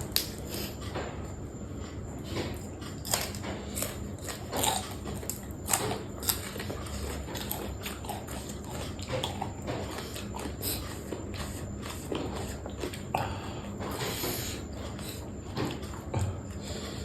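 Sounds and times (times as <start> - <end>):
person chewing with crunches: 0.0 - 17.0.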